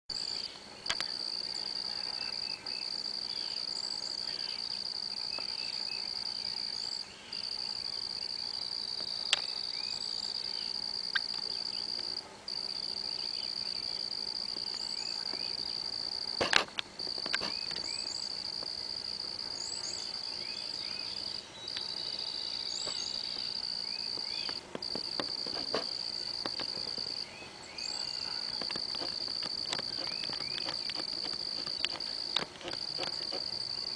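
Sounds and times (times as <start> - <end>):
insect chorus trilling: 0.1 - 33.9
short insect chirps: 0.1 - 33.9.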